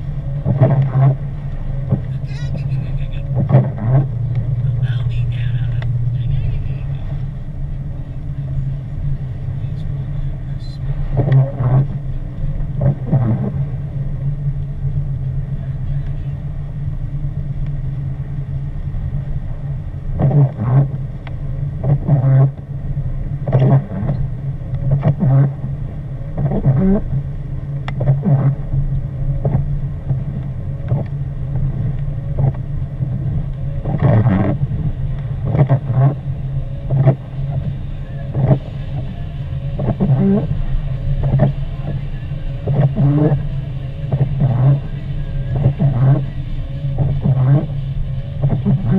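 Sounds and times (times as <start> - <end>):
road and engine hum: 0.0 - 48.9
windshield wiper sweeping: 0.0 - 48.9.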